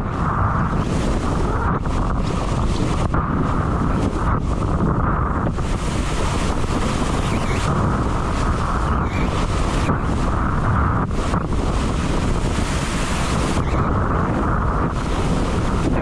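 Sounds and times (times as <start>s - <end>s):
low rumble: 0.0s - 16.0s
water rushing and spraying: 0.0s - 16.0s
wind buffeting microphone: 0.0s - 16.0s.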